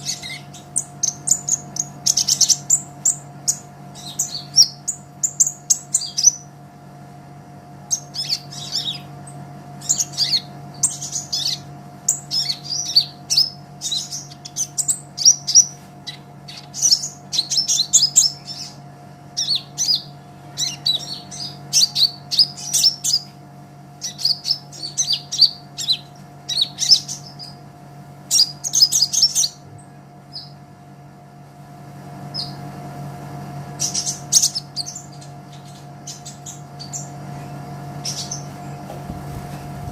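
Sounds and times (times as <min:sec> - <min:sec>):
sunbird chirps and trills: 0:00.0 - 0:30.8, 0:32.2 - 0:32.8, 0:33.4 - 0:39.8
faint steady hum: 0:00.0 - 0:39.9.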